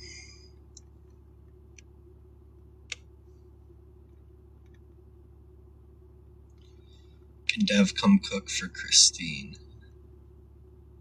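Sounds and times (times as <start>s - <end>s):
low hum inside vehicle cabin: 0.0s - 11.0s.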